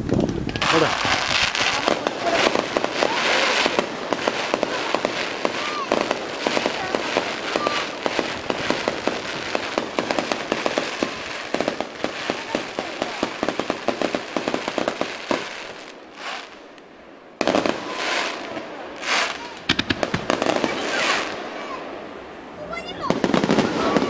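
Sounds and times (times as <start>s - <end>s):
fireworks crackling: 0.0s - 24.0s
loud firework burst: 0.5s - 16.6s, 17.4s - 22.0s, 23.0s - 24.0s.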